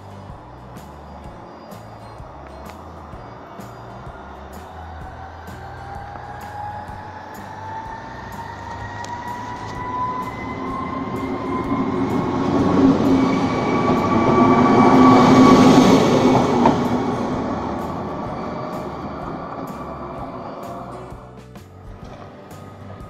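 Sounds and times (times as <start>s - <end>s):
diesel train passing: 0.0s - 23.0s
steady whine: 0.0s - 23.0s.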